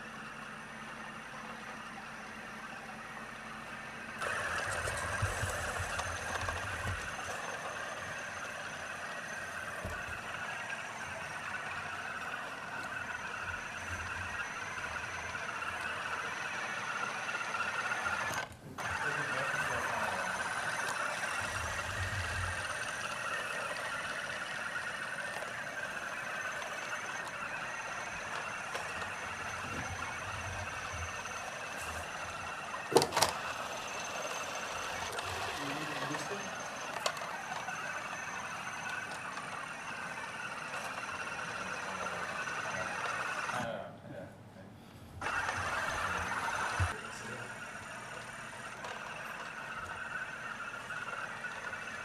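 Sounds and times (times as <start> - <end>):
robot vacuum whirring: 0.0 - 43.8, 45.2 - 52.0.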